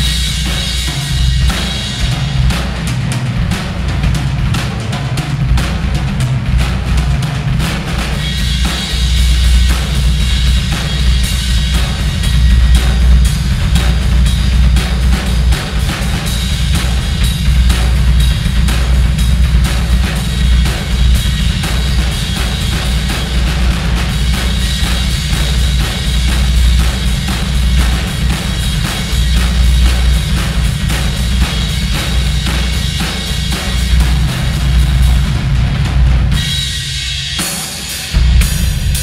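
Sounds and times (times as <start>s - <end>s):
bass drum and snare: 0.0s - 39.0s
cymbals: 0.0s - 39.0s.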